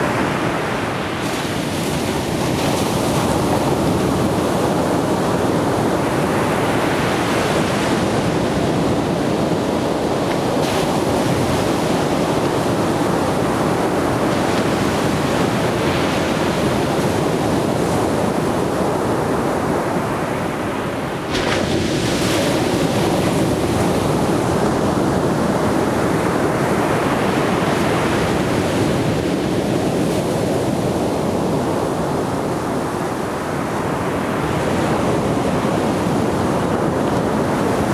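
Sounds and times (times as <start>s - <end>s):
surf waves breaking on beach: 0.0s - 37.9s.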